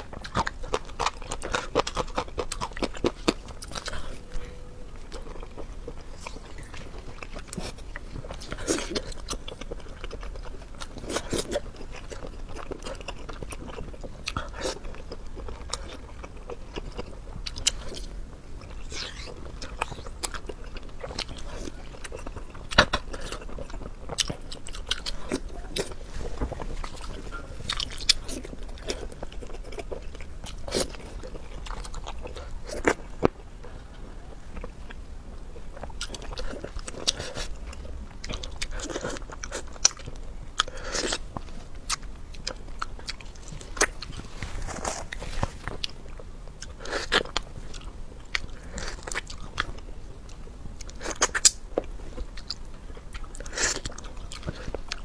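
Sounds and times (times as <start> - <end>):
person crunching and chewing food: 0.0 - 55.0.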